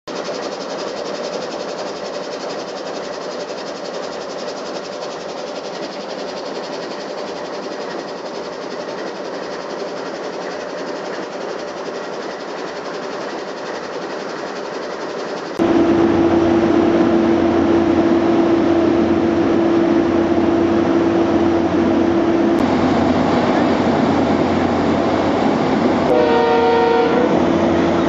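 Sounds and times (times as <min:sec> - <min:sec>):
freight train wheels on rails: 0:00.1 - 0:28.0.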